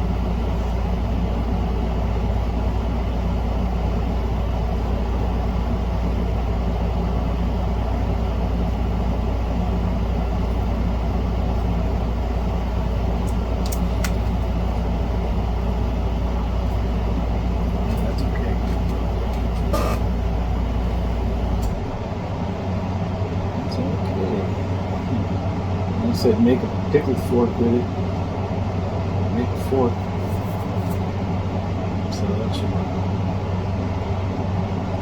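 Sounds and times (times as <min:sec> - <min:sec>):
loud low hum: 0:00.0 - 0:35.0.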